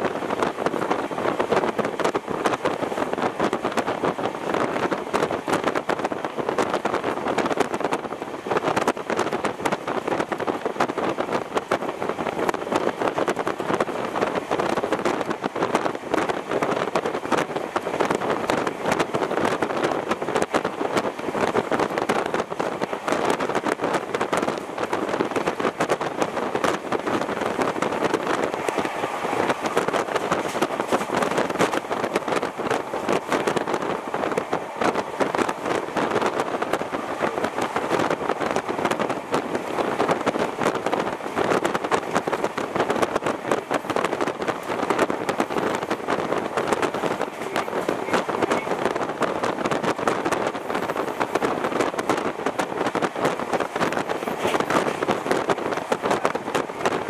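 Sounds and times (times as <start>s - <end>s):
train wind and track noise: 0.0s - 57.0s.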